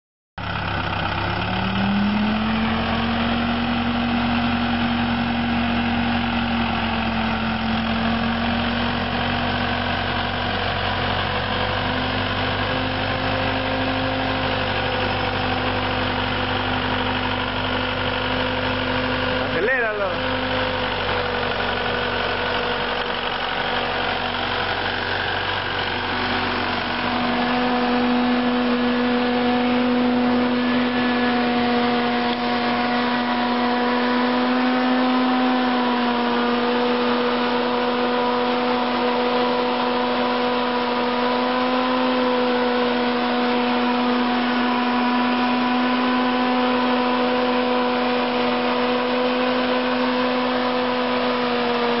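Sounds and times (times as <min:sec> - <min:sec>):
tractor diesel engine running: 0:00.4 - 0:52.0.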